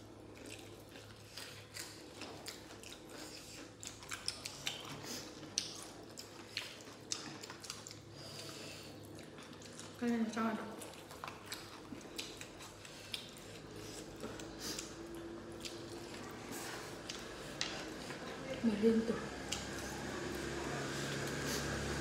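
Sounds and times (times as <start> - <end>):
wet chewing and lip-smacking: 0.0 - 22.0.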